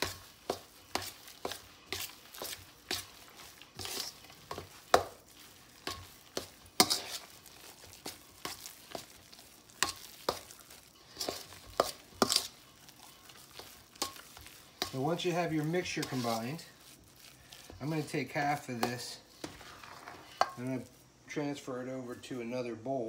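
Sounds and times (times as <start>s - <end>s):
metal utensil stirring in bowl: 0.0s - 21.0s
utensil scraping and clinking bowl: 0.0s - 21.0s.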